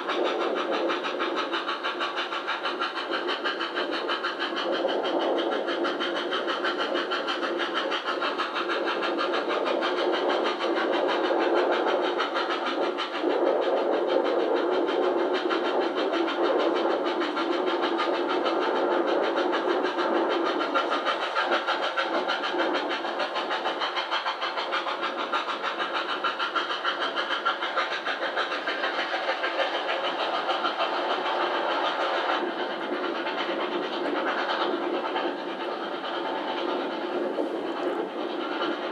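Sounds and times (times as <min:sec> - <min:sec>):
steam locomotive chuffing: 0:00.0 - 0:38.9
train running noise: 0:00.0 - 0:38.9.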